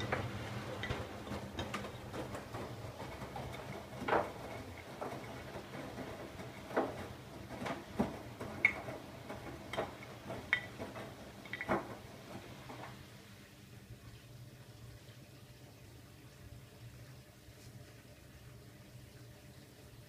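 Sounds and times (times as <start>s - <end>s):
washing machine humming: 0.0s - 20.0s.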